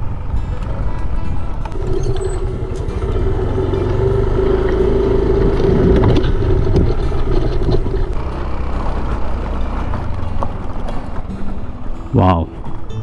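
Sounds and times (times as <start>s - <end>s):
scooter engine running: 0.0s - 12.1s.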